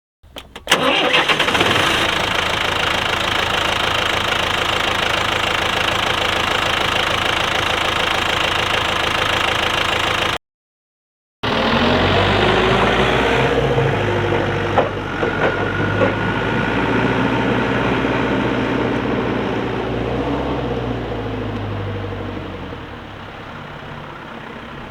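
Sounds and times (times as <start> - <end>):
diesel engine running: 0.3 - 10.4, 11.4 - 24.9.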